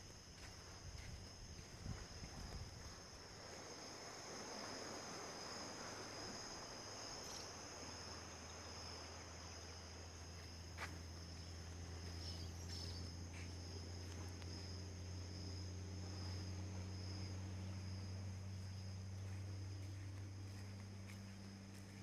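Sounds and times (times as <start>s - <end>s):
insects chirring: 0.0s - 22.0s
low steady hum: 0.0s - 22.0s.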